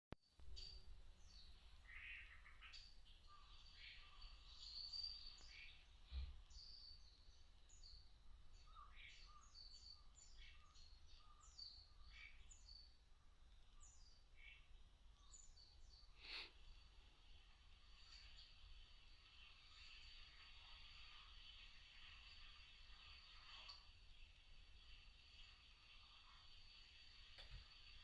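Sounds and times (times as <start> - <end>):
small birds chirping: 0.3 - 28.0.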